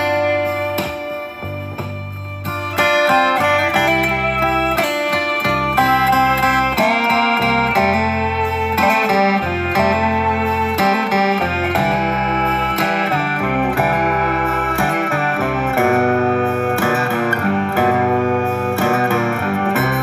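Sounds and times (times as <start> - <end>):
guitar-led instrumental music: 0.0 - 20.0.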